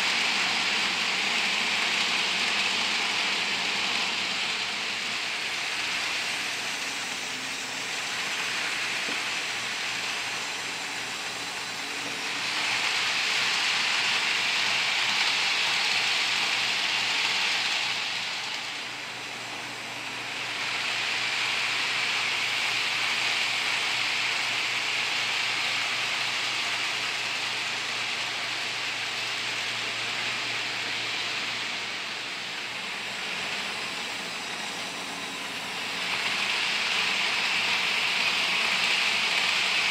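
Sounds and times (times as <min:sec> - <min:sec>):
model train whirring on track: 0:00.0 - 0:39.9.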